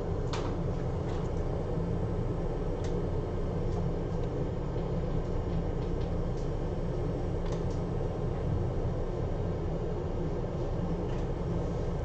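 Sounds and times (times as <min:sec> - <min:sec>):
low equipment hum: 0:00.0 - 0:12.0.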